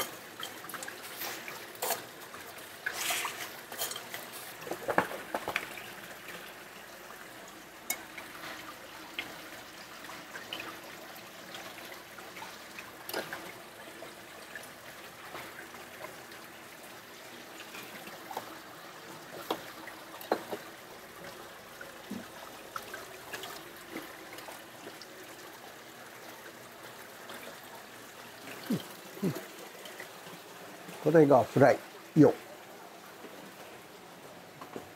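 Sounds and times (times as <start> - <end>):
water running from taps: 0.0 - 34.9.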